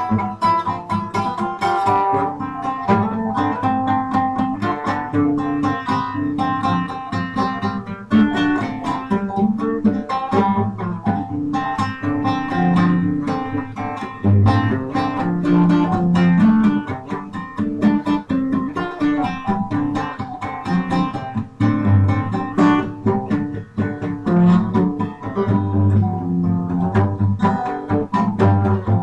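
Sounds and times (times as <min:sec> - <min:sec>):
plucked guitar over bass line: 0:00.0 - 0:29.0.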